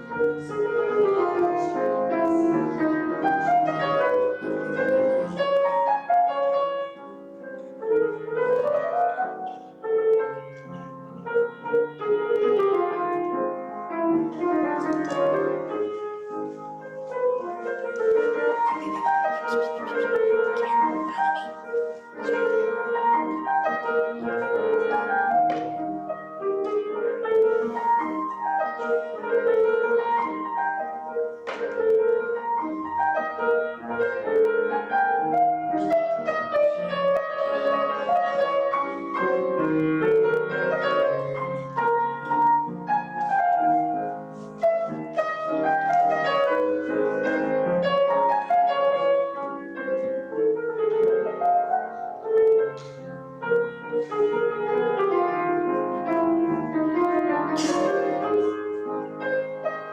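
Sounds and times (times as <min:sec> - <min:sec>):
slow piano piece: 0:00.0 - 0:59.9.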